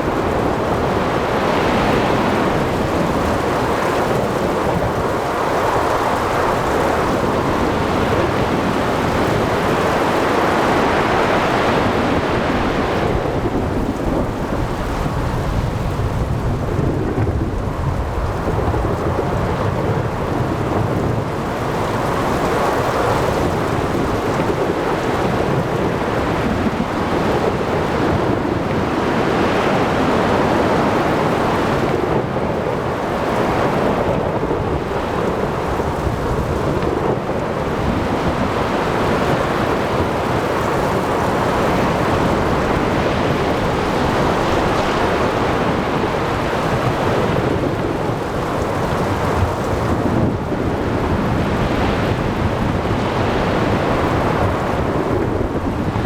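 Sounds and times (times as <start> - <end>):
heavy rain: 0.0 - 56.0
surf: 0.0 - 56.0
wind: 0.0 - 56.0.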